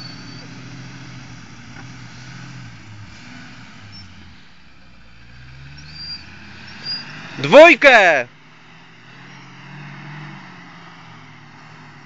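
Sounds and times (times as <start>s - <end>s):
distant car engine revving: 0.0s - 12.0s.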